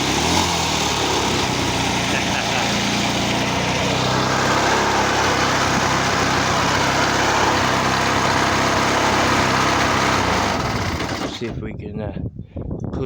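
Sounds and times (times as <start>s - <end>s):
lawnmower engine running: 0.0s - 11.6s.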